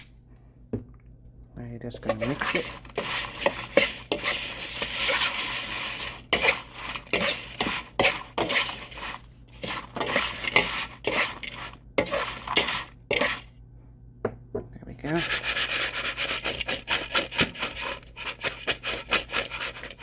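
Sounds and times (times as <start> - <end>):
utensil stirring and scraping a dish: 2.0 - 13.5, 15.1 - 20.0.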